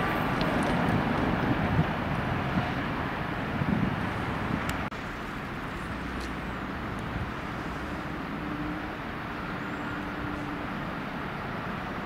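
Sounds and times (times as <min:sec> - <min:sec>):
station and city rumble: 0:00.0 - 0:12.0.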